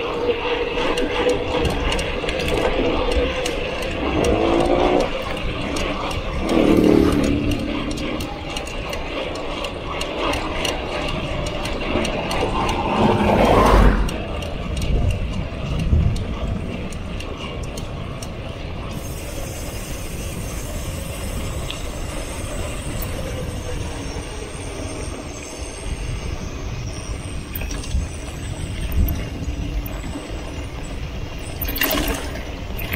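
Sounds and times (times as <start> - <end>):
bicycle freewheel ratcheting: 0.0 - 32.9.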